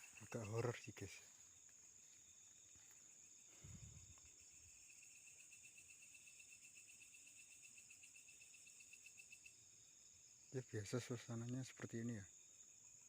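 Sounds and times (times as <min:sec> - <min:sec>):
cricket chirping: 0:00.0 - 0:13.0
insects droning: 0:00.0 - 0:13.0.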